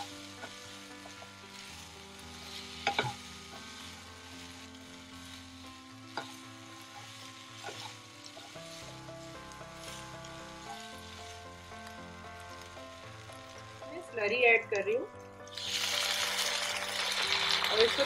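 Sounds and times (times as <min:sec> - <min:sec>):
chicken sizzling in a frying pan: 0:00.0 - 0:18.0.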